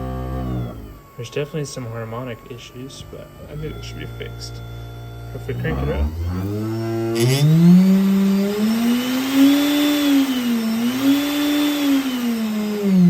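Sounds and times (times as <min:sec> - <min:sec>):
spindle motor whine: 0:00.0 - 0:13.0.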